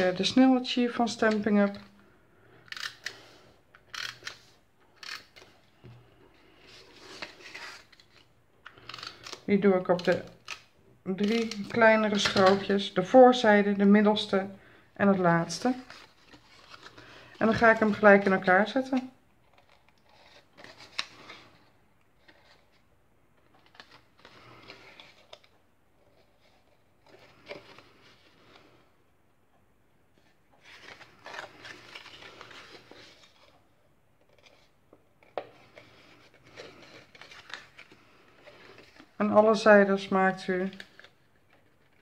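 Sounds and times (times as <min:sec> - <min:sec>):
paper rustling and creasing: 0:02.7 - 0:14.4, 0:15.0 - 0:28.8, 0:30.1 - 0:42.0.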